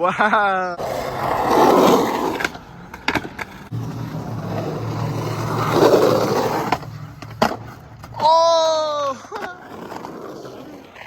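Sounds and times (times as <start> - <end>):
skateboard wheels rolling on pavement: 0.8 - 11.0.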